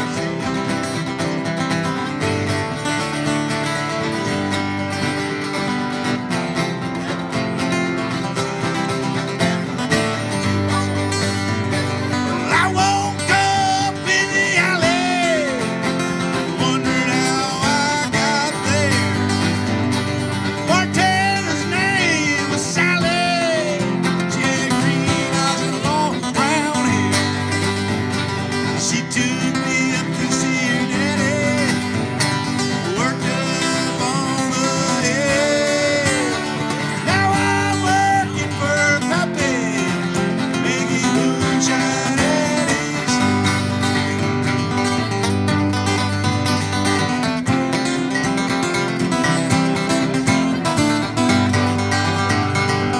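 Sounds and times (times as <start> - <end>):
acoustic guitars strumming: 0.0 - 52.9.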